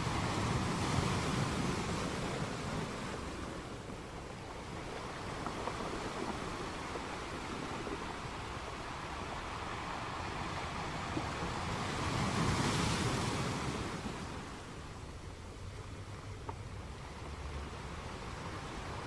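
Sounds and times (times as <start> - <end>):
sea waves washing: 0.0 - 19.0.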